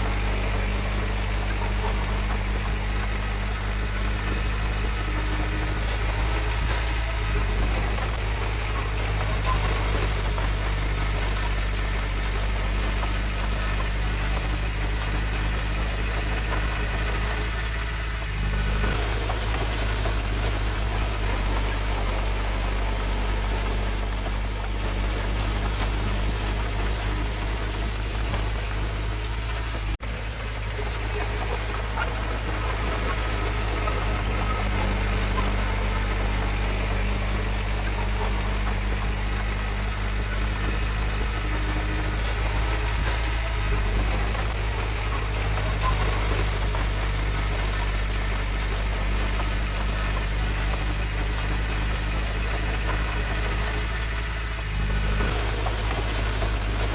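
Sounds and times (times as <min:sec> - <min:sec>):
diesel engine of heavy machinery: 0:00.0 - 0:56.9.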